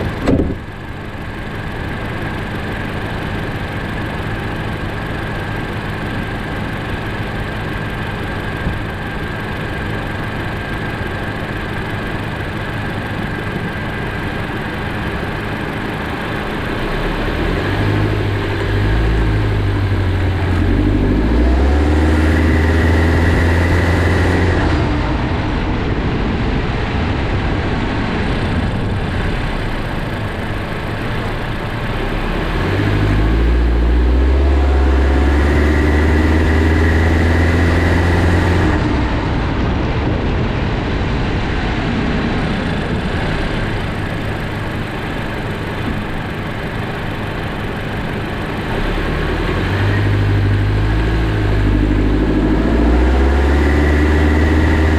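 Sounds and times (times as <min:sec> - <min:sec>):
car engine revving: 0:00.0 - 0:25.6, 0:28.3 - 0:39.8, 0:41.9 - 0:54.9.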